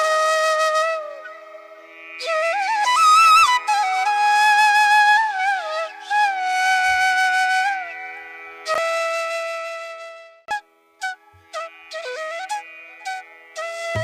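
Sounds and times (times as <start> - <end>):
slow flute melody: 0.0 - 8.0, 8.6 - 14.0.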